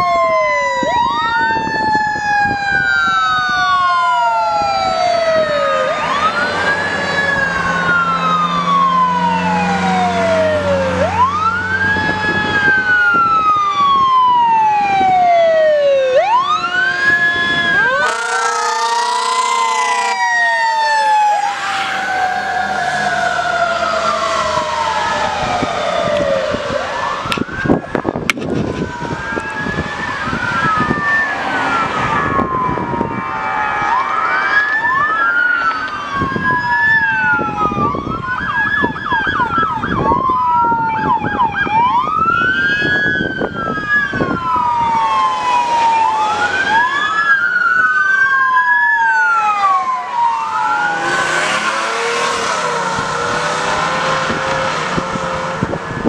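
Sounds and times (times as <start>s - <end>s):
wailing sirens: 0.0s - 56.0s.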